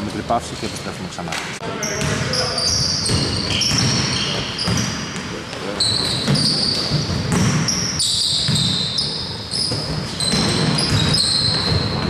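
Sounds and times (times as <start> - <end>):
basketball court noise: 0.0 - 12.0
basketballs bouncing on gym floor: 1.8 - 12.0.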